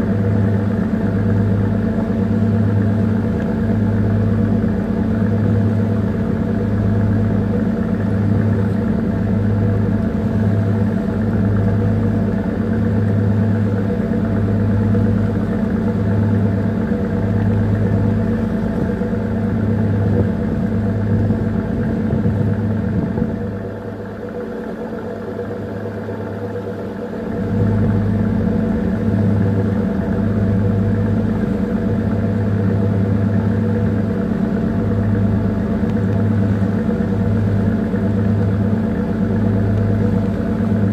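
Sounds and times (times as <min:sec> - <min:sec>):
diesel engine drone: 0:00.0 - 0:40.9.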